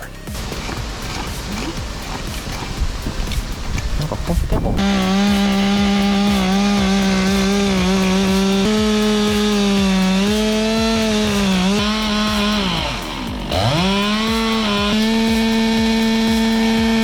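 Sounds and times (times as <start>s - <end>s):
chainsaw running at high revs: 0.3s - 3.8s, 4.8s - 17.0s.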